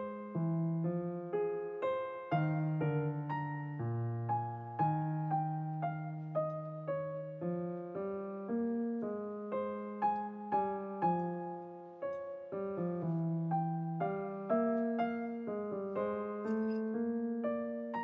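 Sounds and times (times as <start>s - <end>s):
gentle solo piano melody: 0.0s - 18.0s.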